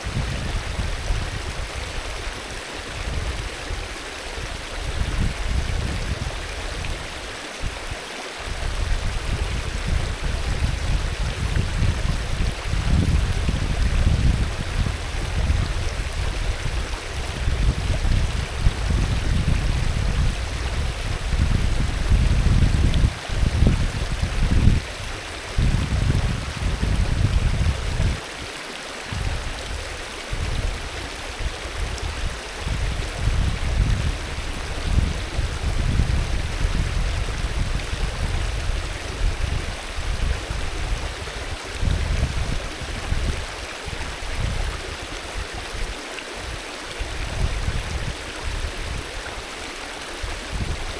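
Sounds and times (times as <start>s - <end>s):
river rushing: 0.0s - 50.9s.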